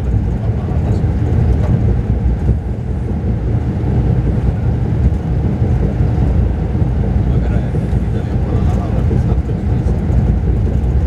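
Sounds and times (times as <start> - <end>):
bus engine drone: 0.0 - 11.0
road and wind noise: 0.0 - 11.0.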